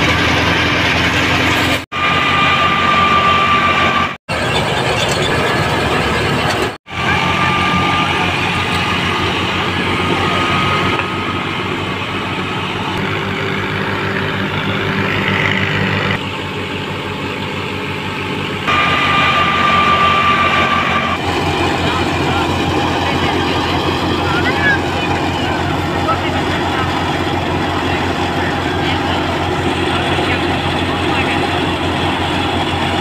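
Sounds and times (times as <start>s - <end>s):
high whine: 0.0s - 33.0s
thresher hum and rattle: 0.0s - 33.0s
tractor diesel engine running: 0.0s - 33.0s.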